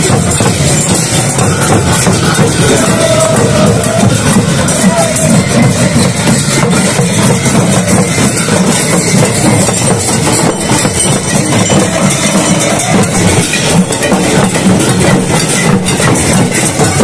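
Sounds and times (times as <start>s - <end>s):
drums beating fast rhythm: 0.0s - 17.0s
hand cymbals clashing: 0.0s - 17.0s.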